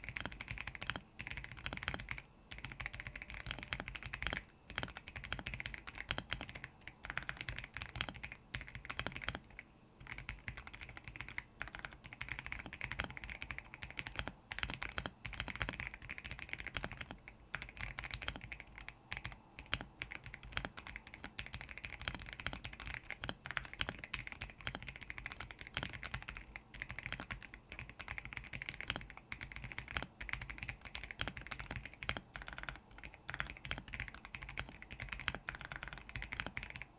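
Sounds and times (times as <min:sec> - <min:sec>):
typing on mechanical keyboard: 0:00.0 - 0:36.9.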